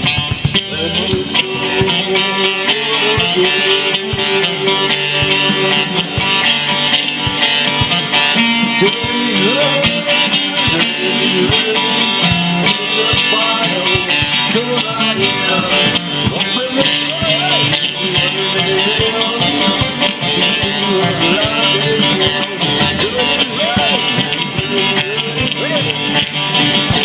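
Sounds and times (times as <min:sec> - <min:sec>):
guitar chords: 0:00.0 - 0:27.0
plucked guitar melody: 0:00.0 - 0:27.0.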